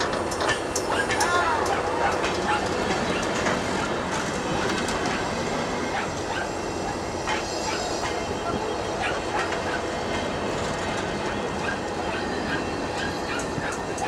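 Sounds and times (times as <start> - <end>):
train wheels clattering: 0.0 - 14.0.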